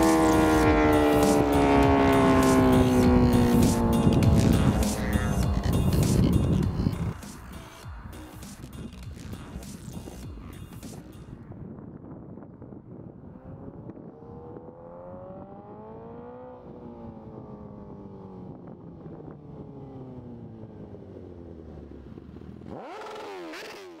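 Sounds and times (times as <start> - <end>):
motorcycle engine revving: 0.0 - 11.2, 13.2 - 24.0.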